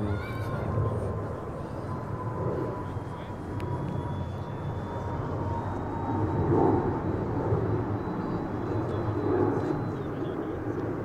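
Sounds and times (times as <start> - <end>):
model airplane motor drone: 0.0 - 11.0
outdoor noise: 0.0 - 11.0.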